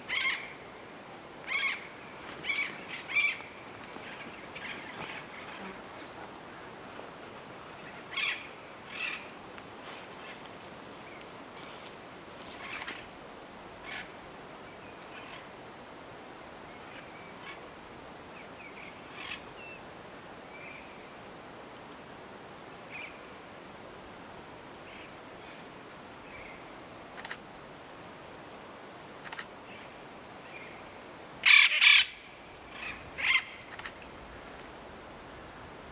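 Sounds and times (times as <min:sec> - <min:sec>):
steady outdoor hiss: 0:00.0 - 0:35.9.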